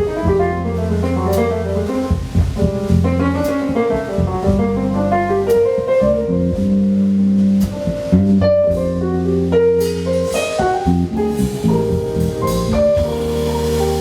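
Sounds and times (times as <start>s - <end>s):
bass line: 0.0s - 14.0s
drum kit: 0.0s - 14.0s
jazz band playing: 0.0s - 14.0s.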